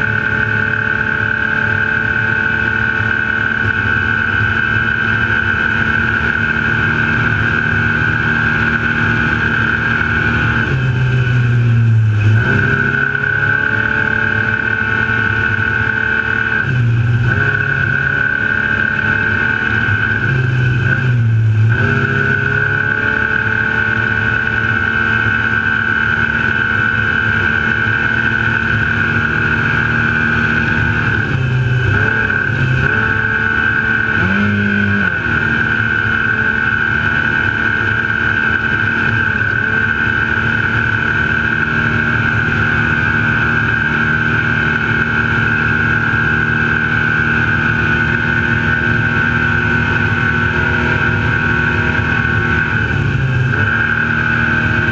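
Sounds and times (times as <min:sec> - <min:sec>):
high whine: 0:00.0 - 0:54.9
truck engine running hard: 0:00.0 - 0:54.9.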